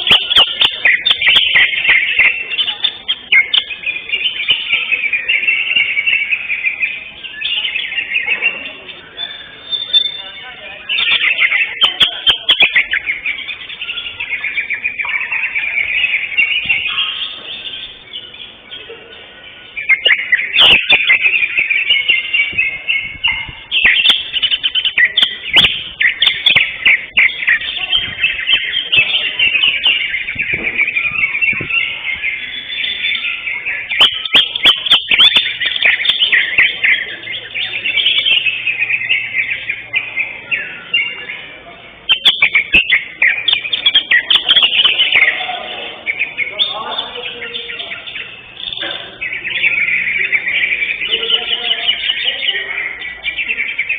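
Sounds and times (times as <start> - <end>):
bird singing chirps and warbles: 0.0 - 53.9.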